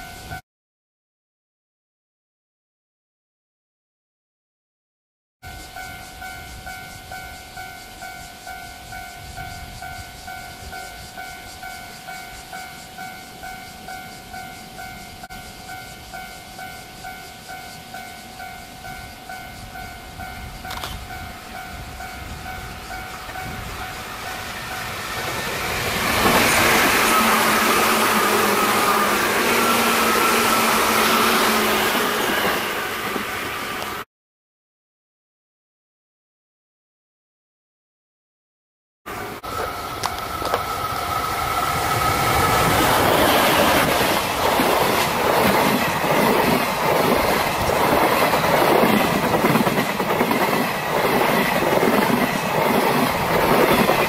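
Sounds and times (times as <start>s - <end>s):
electric train passing: 5.5s - 34.1s, 39.1s - 54.0s.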